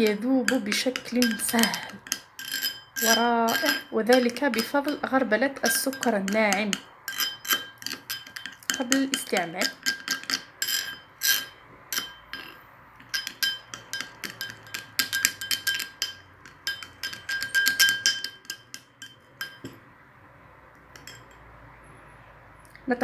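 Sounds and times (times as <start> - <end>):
spoon clinking against bowl: 0.0 - 19.8, 20.9 - 21.5.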